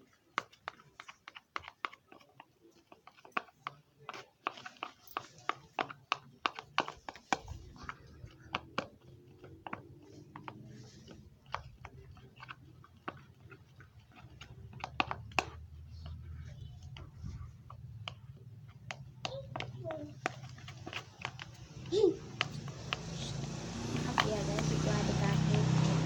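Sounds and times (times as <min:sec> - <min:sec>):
stirrer clicking against a container: 0:00.0 - 0:26.0.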